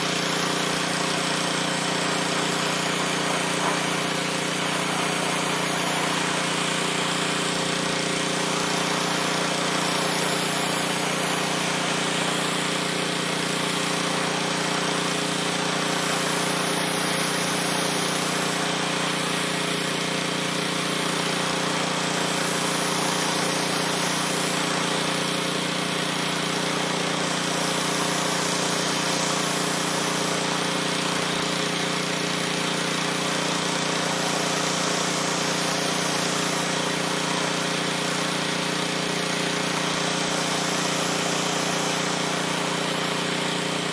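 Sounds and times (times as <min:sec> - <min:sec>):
pressure washer running: 0:00.0 - 0:43.9
water jet blasting brick: 0:00.0 - 0:43.9.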